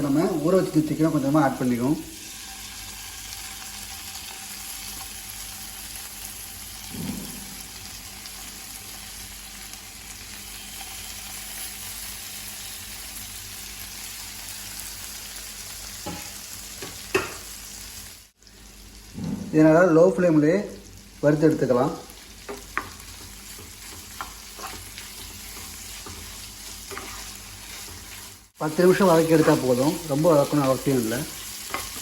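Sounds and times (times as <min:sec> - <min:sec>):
chicken sizzling in butter: 0:00.0 - 0:19.2, 0:20.4 - 0:32.0.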